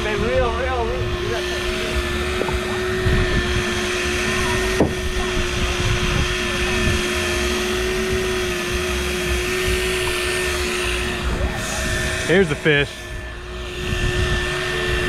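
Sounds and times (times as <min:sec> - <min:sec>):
electric fishing reel motor whine: 0:00.0 - 0:15.0
wind rumbling on microphone: 0:00.0 - 0:15.0.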